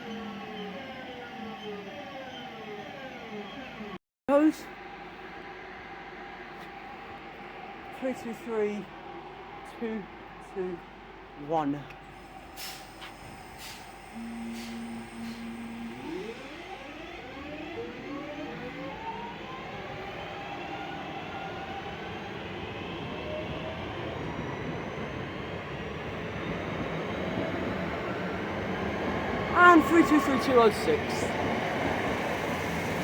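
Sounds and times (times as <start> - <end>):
electric train hum: 0.0 - 33.0.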